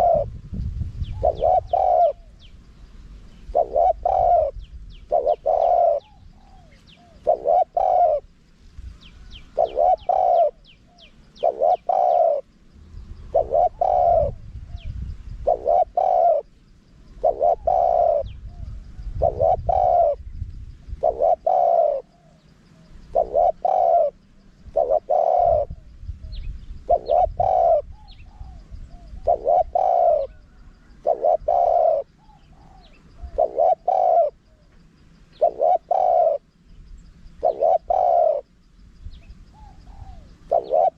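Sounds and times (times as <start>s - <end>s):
dove cooing: 0.0s - 0.4s, 1.0s - 2.6s, 3.3s - 8.4s, 9.0s - 12.6s, 13.2s - 36.6s, 37.3s - 38.5s, 39.2s - 40.9s
faint small bird chirps: 0.0s - 16.6s, 17.2s - 40.9s.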